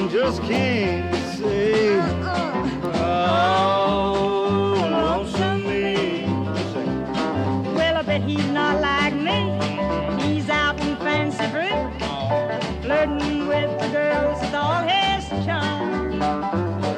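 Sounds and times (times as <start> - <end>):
country band music: 0.0 - 16.9.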